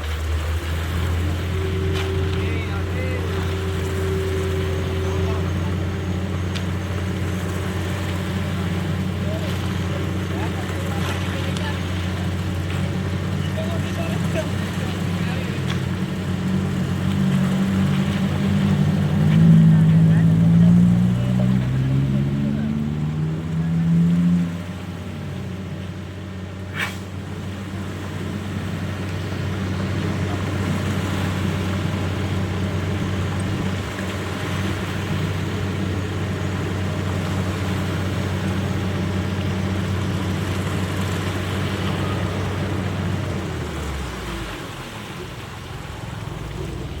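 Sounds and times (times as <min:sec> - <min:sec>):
large engine humming: 0:00.0 - 0:47.0.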